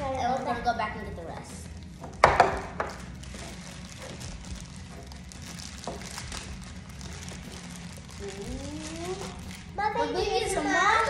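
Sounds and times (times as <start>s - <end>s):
plastic wrappers crinkling and tearing: 1.3s - 10.7s.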